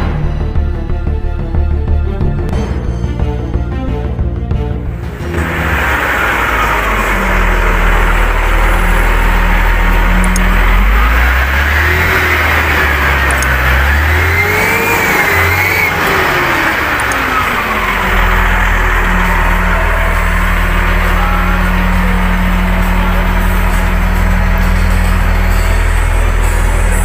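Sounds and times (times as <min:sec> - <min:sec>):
diesel engine droning: 0:00.0 - 0:27.0
high whine: 0:04.6 - 0:27.0.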